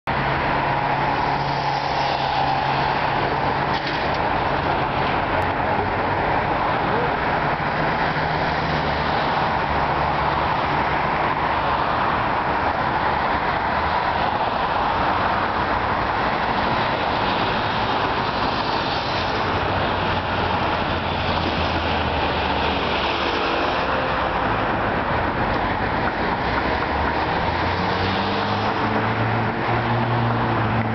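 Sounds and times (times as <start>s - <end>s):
passing cars and motorbikes: 0.1s - 30.9s.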